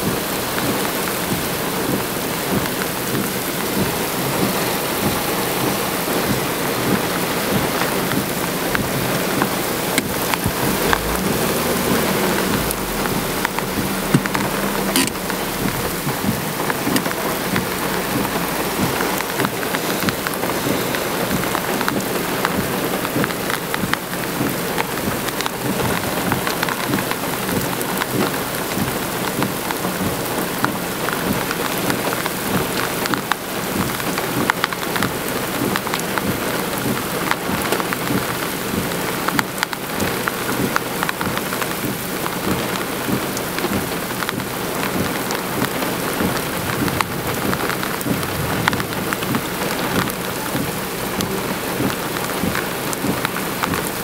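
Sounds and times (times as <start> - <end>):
heavy rain on a car: 0.0 - 54.0.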